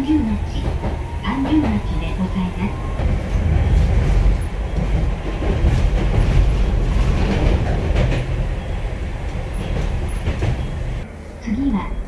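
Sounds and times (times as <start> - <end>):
track clacks and knocks: 0.0 - 11.1
streetcar wheels rumbling: 0.0 - 12.0.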